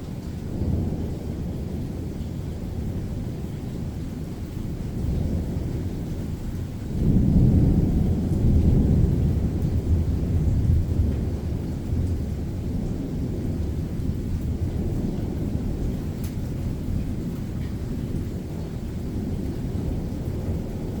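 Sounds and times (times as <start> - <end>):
rain: 0.0 - 21.0
thunder rumbling: 0.0 - 21.0.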